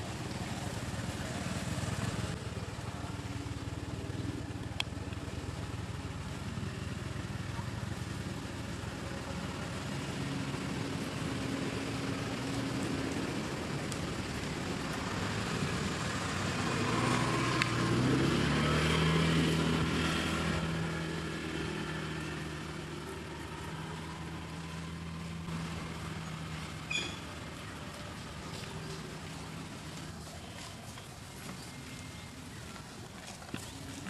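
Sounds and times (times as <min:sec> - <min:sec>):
vehicle engine passing: 0:00.0 - 0:34.0.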